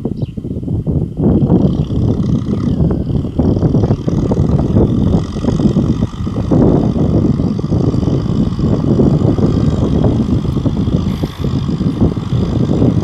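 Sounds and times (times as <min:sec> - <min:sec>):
tractor diesel engine rumbling: 0:00.6 - 0:13.0.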